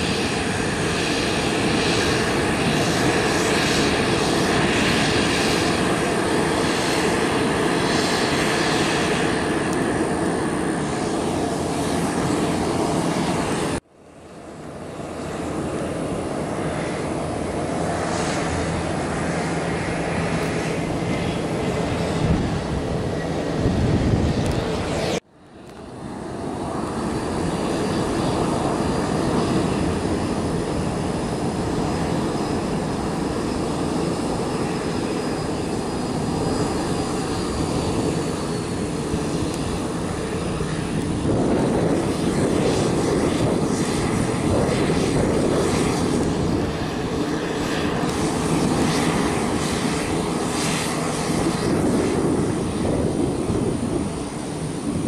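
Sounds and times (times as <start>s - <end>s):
jet engines with turbine whine: 0.0s - 55.0s
turboprop engine and propeller: 0.0s - 55.0s.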